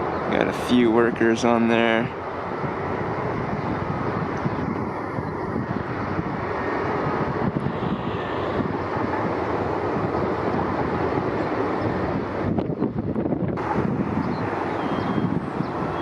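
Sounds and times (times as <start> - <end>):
diesel engine rumble: 0.0 - 16.0.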